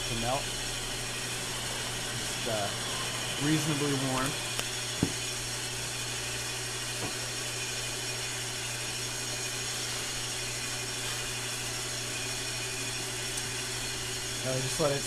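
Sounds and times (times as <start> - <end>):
heat gun fan noise: 0.0 - 15.0
lathe motor hum: 0.0 - 15.0.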